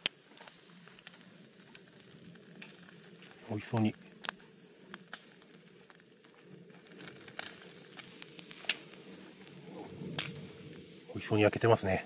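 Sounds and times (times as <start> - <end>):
bacon sizzling on a grill: 0.0 - 12.0
fire popping and crackling: 0.0 - 12.0.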